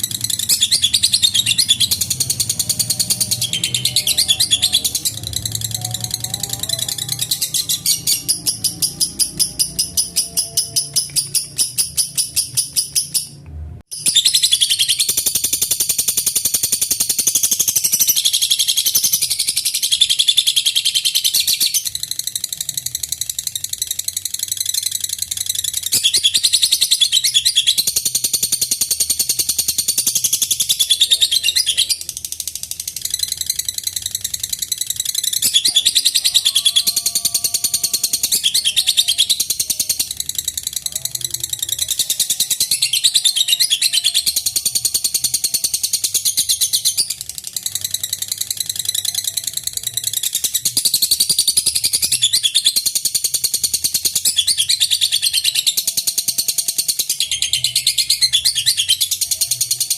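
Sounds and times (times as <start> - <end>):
bird shrill chattering: 0.0 - 13.3, 13.9 - 59.9.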